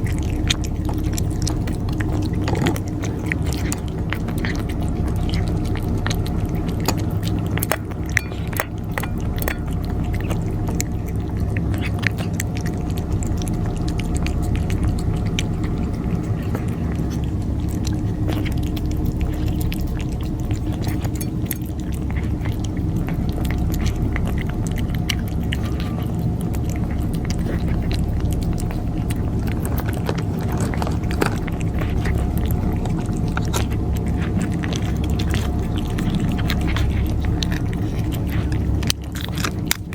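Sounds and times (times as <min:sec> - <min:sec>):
cats chewing food: 0:00.0 - 0:39.9
low hum: 0:00.0 - 0:39.9.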